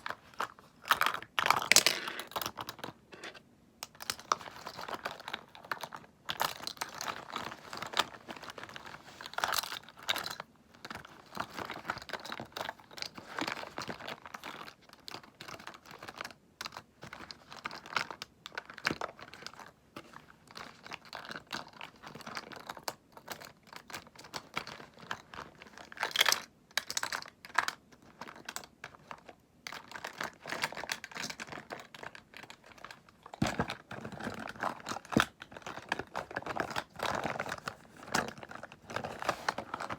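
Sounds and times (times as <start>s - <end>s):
tapping and clicking packaging: 0.0s - 39.9s
packaging crinkling: 4.0s - 39.9s.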